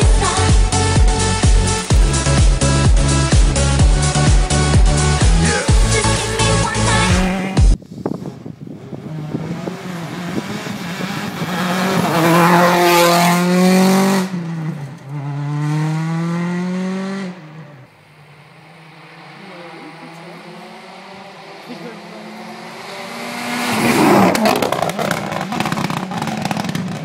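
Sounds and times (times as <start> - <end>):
rally car engine at full throttle: 0.0 - 27.0.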